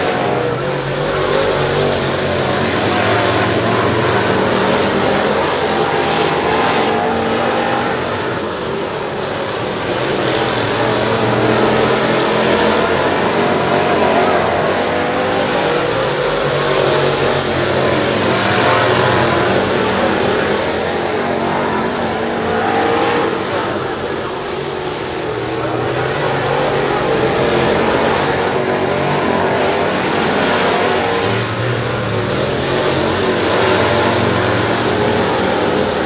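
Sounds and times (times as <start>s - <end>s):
race car engines passing: 0.0s - 36.0s.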